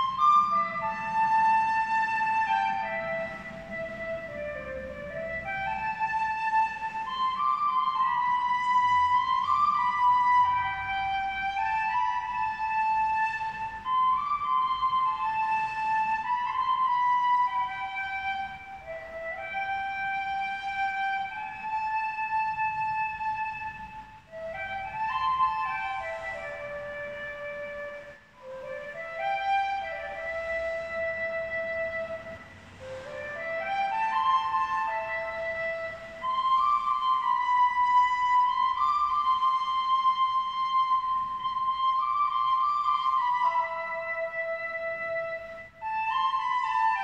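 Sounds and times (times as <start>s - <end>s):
flute-like whistling from a door: 0.0s - 47.0s.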